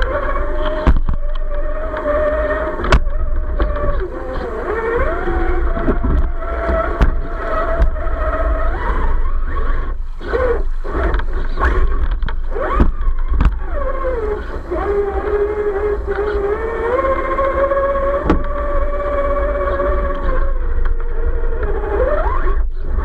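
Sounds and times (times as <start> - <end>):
electric motor and gearbox whining: 0.0 - 23.0.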